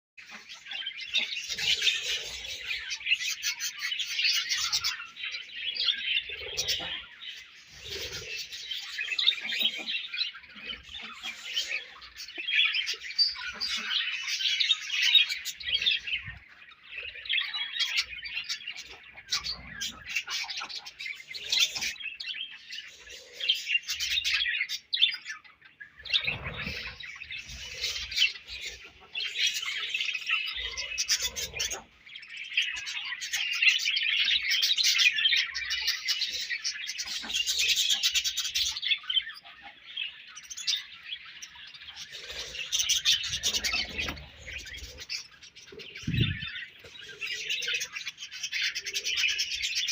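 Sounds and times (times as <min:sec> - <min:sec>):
budgerigars chirping and warbling: 0:00.2 - 0:49.9.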